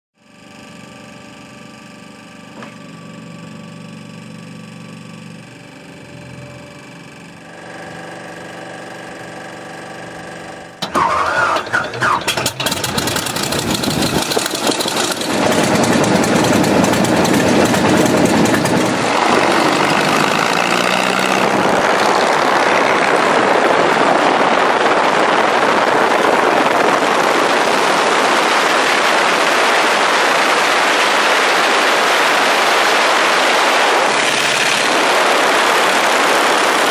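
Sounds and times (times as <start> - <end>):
aircraft engine starting: 0.3 - 36.9.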